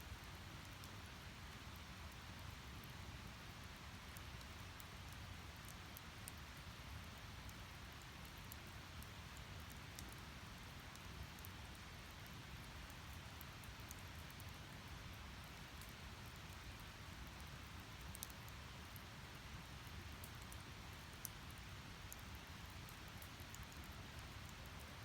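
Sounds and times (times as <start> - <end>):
fire crackles and pops: 0.1 - 25.0.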